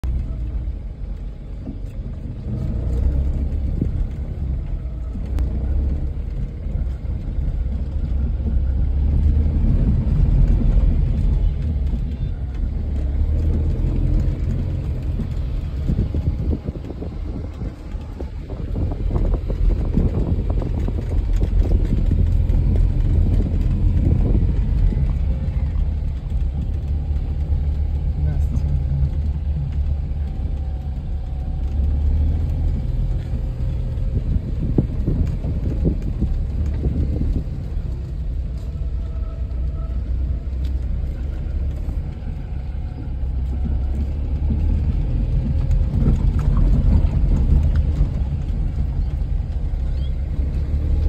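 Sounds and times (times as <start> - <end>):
vehicle engine and road rumble: 0.0 - 51.0.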